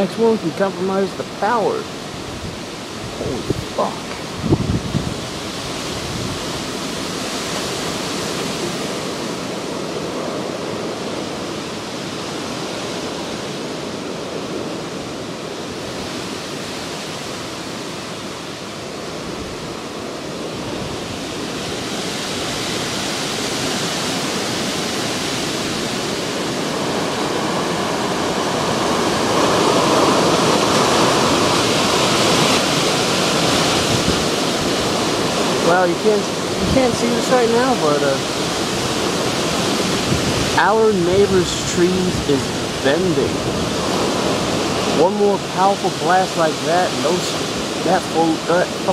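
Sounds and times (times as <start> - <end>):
strong wind roaring: 0.0 - 48.9.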